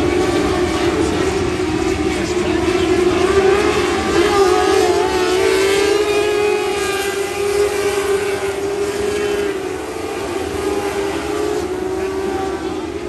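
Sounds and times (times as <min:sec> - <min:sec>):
racing car engines running hard: 0:00.0 - 0:13.0.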